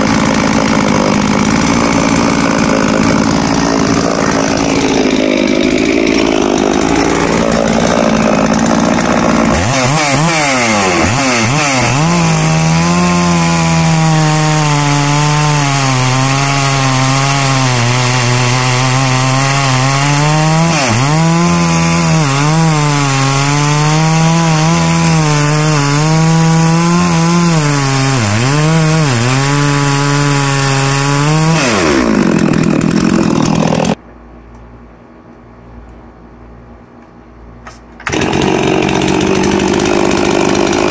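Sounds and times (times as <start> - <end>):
chainsaw cutting through log: 0.0 - 34.0, 38.0 - 40.9.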